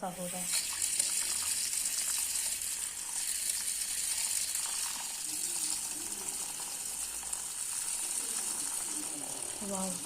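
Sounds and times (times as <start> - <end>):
electric beater whirring: 0.0 - 10.0.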